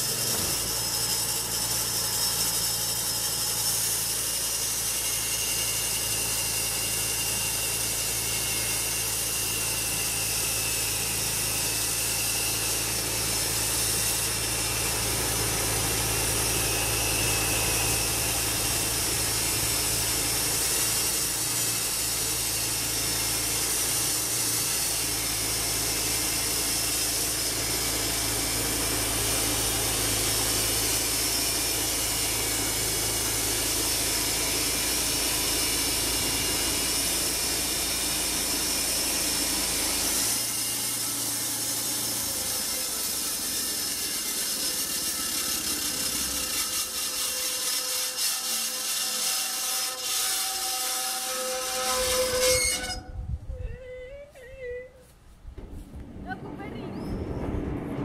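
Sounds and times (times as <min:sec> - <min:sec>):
drive motor drone: 0:00.0 - 0:47.2, 0:55.3 - 0:58.0
band saw blade sawing log: 0:00.0 - 0:53.1.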